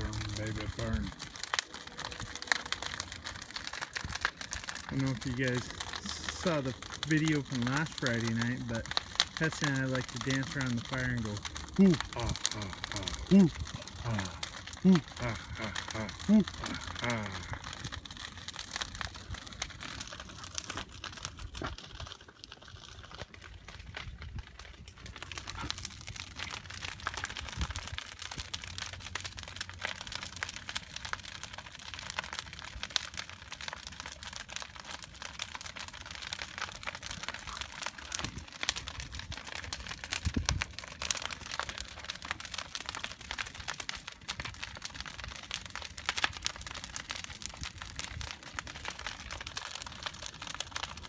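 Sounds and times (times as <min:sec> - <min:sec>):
bonfire crackling and popping: 0:00.0 - 0:51.0.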